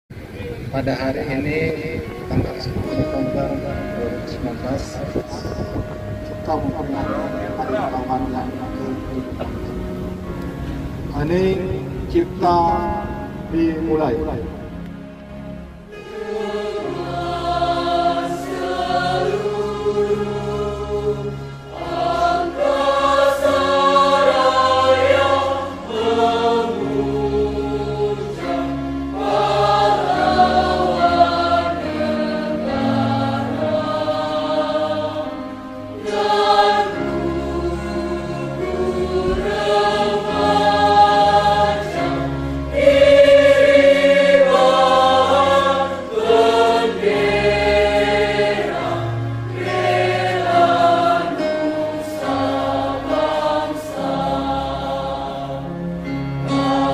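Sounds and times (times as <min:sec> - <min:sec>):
choir singing solemn chords: 0:00.1 - 0:56.9.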